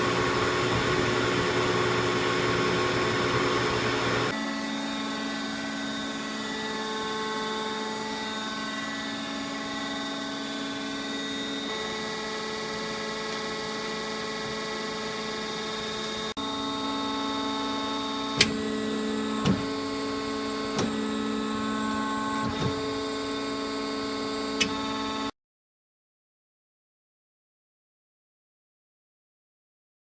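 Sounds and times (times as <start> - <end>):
lathe whining: 0.0 - 25.3.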